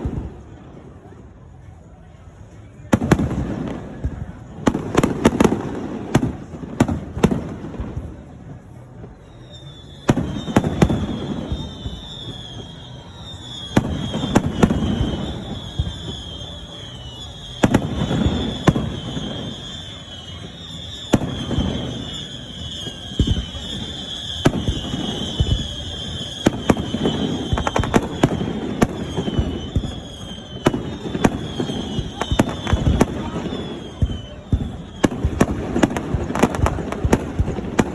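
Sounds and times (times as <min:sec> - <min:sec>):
fireworks booming bangs: 0:02.8 - 0:37.9.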